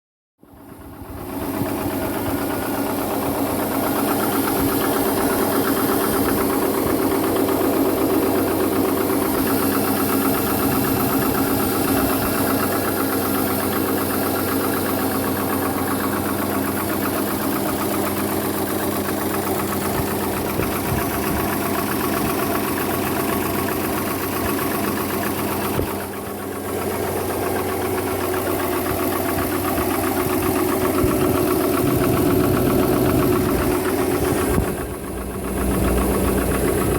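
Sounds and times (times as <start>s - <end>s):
engine running with rapid knocking: 0.4s - 36.9s.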